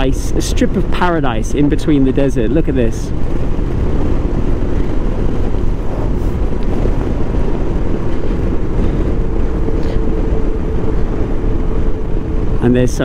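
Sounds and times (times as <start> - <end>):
motorcycle engine drone: 0.0 - 13.0
wind rush on microphone: 0.0 - 13.0.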